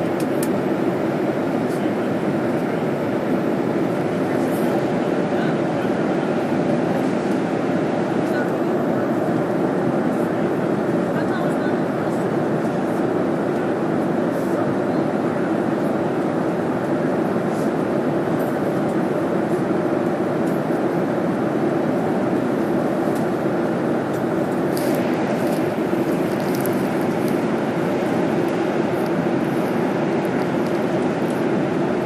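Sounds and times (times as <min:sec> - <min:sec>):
aircraft cabin drone: 0:00.0 - 0:32.0.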